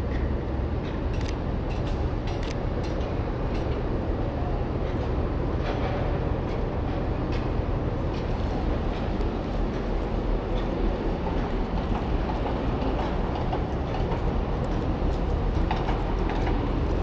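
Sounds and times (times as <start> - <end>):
low rumble of city noise: 0.0 - 17.0.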